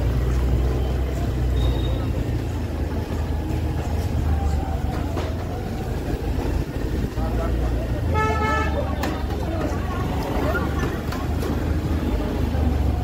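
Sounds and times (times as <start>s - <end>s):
motor scooter rumbling: 0.0s - 13.0s
people chattering: 0.0s - 13.0s.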